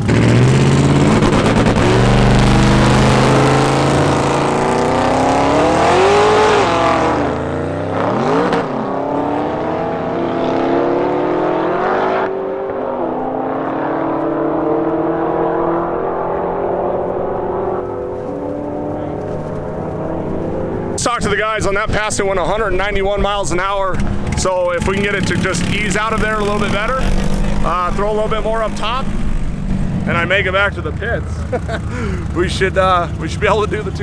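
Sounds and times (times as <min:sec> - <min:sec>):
drag car engine at full throttle: 0:00.0 - 0:34.0
tires spinning: 0:00.0 - 0:34.0.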